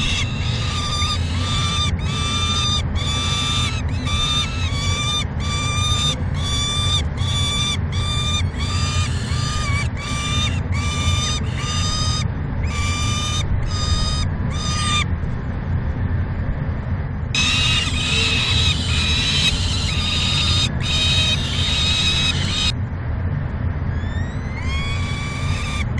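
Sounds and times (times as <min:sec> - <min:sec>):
falcon calling: 0:00.0 - 0:15.1, 0:17.4 - 0:22.8, 0:24.0 - 0:25.9
steady low rumble: 0:00.0 - 0:25.9.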